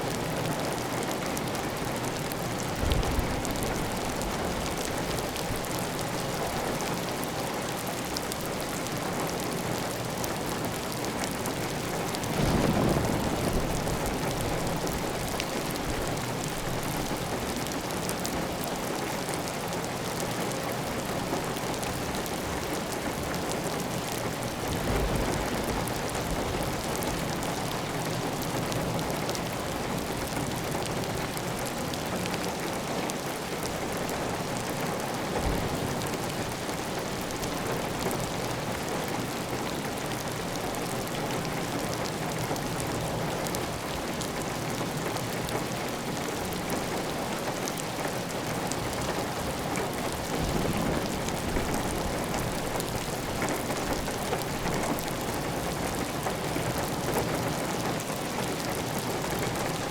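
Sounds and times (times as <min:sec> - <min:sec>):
heavy rain on tile roof: 0:00.0 - 0:59.9.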